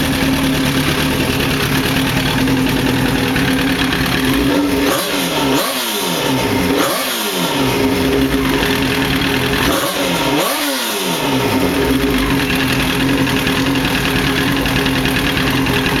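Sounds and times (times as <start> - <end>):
motorcycle engine idling: 0.0 - 16.0
motorcycle engine revving: 0.0 - 16.0.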